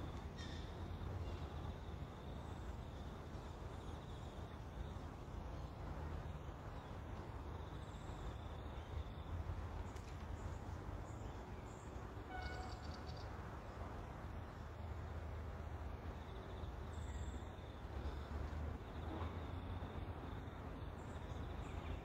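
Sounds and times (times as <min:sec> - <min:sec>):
faint bird chirps and trills: 0:00.0 - 0:13.8, 0:16.0 - 0:22.0.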